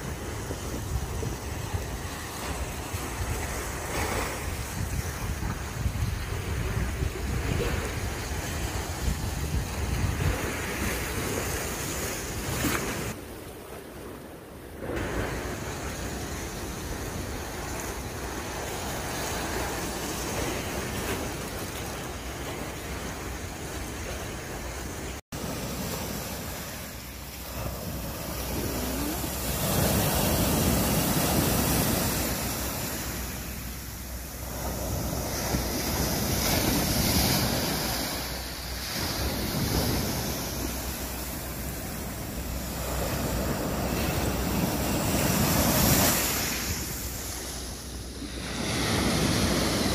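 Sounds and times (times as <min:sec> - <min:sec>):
waves breaking and washing in: 0:00.0 - 0:49.9
wind rumbling on microphone: 0:00.0 - 0:49.9.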